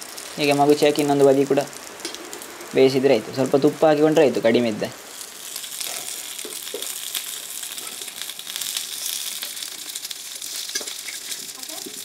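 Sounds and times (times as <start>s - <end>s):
ghee sizzling and crackling: 0.0s - 12.0s.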